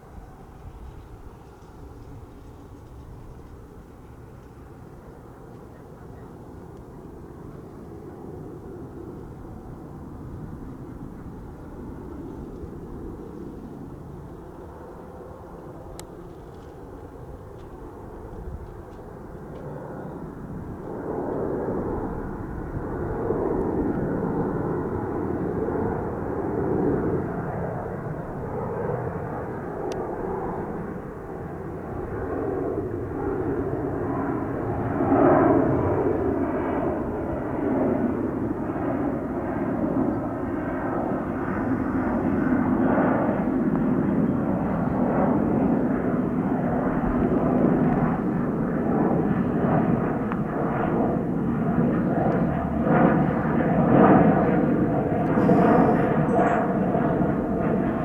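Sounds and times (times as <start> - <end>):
jet engine roar: 0.0 - 58.0.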